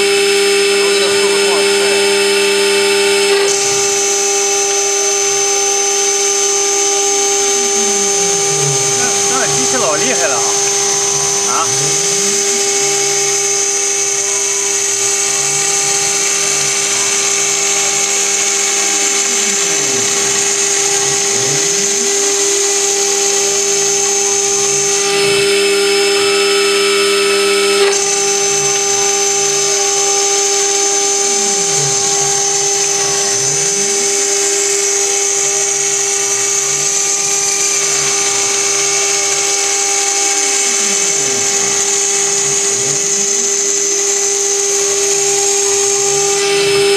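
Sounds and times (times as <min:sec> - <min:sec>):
cnc spindle milling metal: 0:00.0 - 0:46.9.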